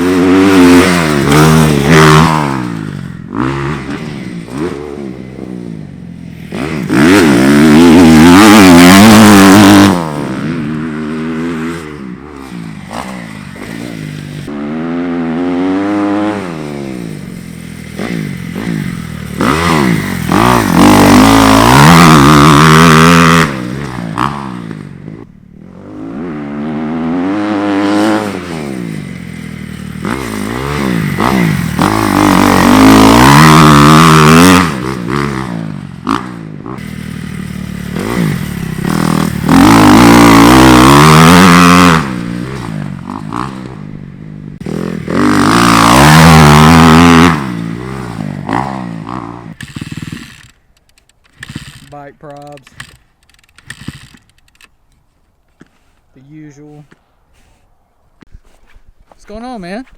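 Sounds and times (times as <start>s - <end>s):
dirt bike engine revving: 0.0s - 54.7s.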